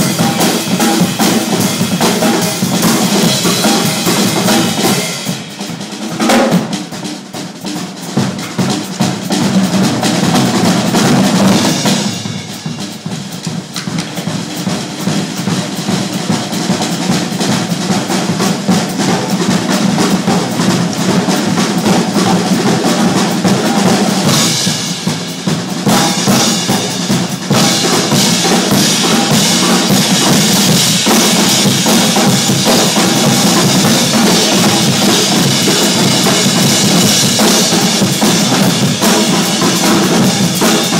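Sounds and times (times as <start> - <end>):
drummers playing fast percussion: 0.0 - 40.9.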